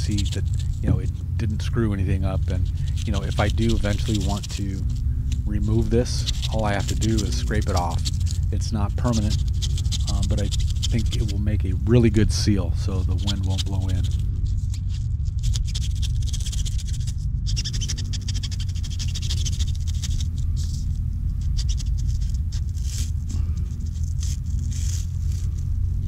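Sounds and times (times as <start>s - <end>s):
razor blade scraping foam: 0.0s - 1.2s, 1.8s - 26.0s
steady low rumble: 0.0s - 26.0s.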